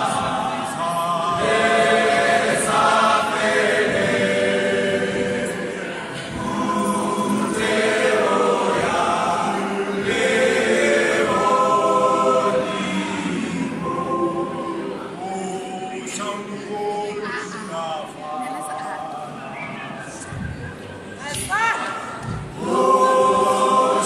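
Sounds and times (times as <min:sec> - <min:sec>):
male choir singing in harmony: 0:00.0 - 0:20.2, 0:22.4 - 0:24.0.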